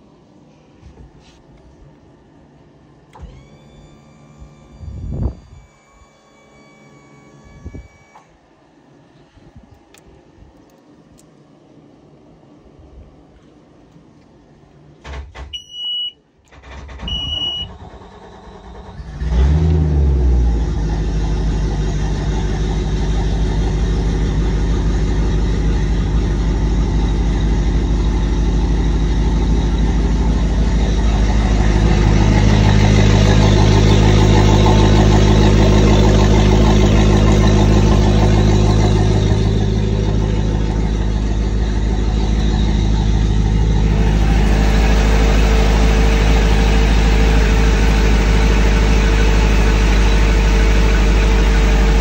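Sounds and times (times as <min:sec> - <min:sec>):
boat engine starting and idling: 0:03.0 - 0:08.4, 0:14.7 - 0:52.0.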